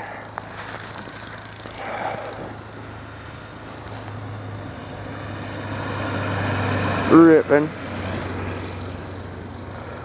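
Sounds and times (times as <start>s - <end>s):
car engine drone: 0.0s - 10.0s
road and tyre noise: 0.0s - 10.0s.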